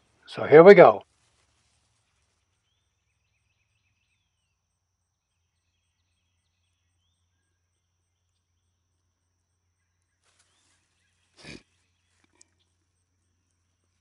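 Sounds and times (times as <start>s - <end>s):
faint bird chirps: 1.3s - 14.0s.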